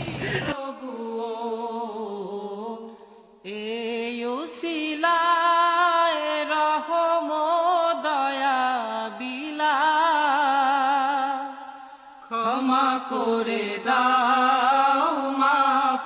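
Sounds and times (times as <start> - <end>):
person singing devotional song: 0.0 - 16.0.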